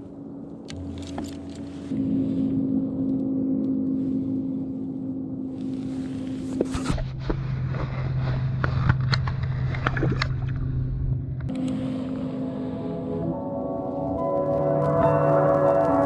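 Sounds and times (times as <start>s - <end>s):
boat motor running: 0.8s - 16.0s.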